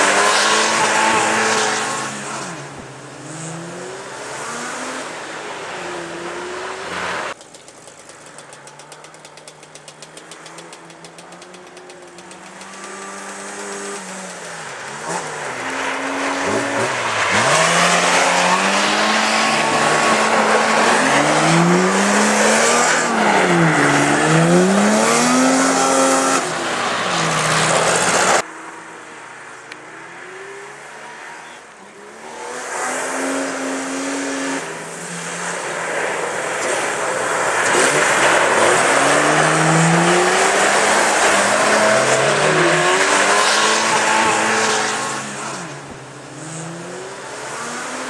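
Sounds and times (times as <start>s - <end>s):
rally car engines revving: 0.0s - 28.5s, 29.8s - 48.0s.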